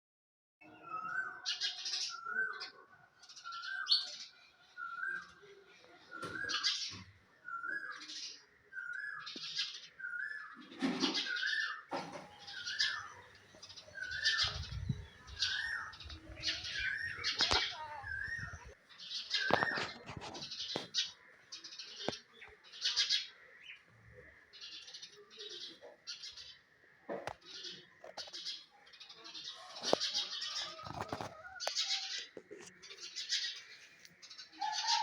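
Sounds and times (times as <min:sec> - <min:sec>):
small birds chirping: 0:00.6 - 0:35.0.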